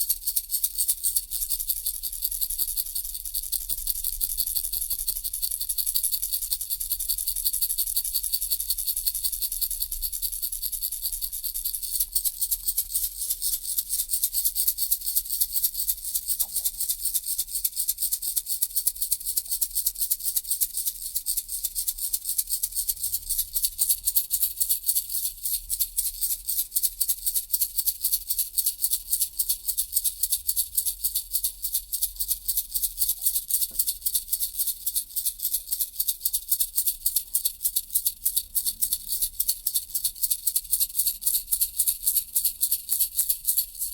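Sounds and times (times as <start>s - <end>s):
baby rattle shaken: 0.0s - 43.9s.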